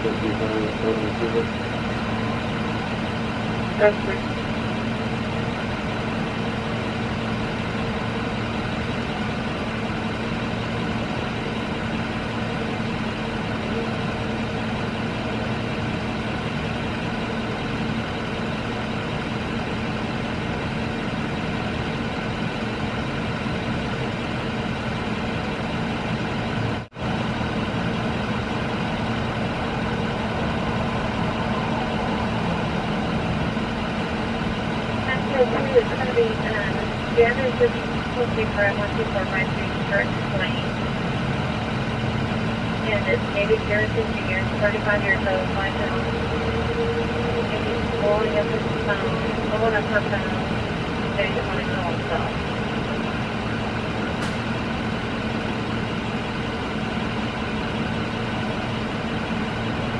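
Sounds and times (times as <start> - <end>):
vehicle engines idling: 0.0 - 59.9.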